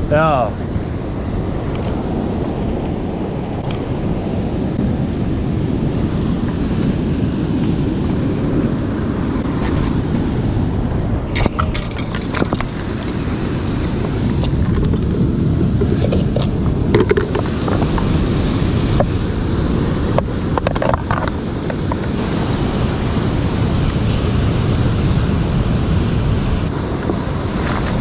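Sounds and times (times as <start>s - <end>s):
sea waves washing: 0.0s - 28.0s
wind buffeting microphone: 0.0s - 28.0s.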